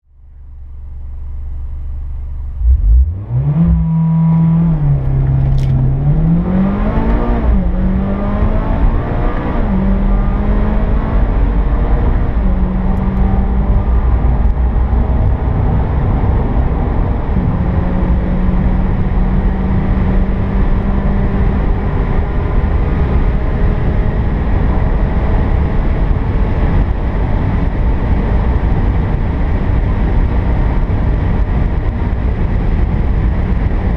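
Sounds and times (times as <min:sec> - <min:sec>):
road and wind noise: 0:00.1 - 0:33.9
car engine accelerating hard: 0:01.1 - 0:33.9.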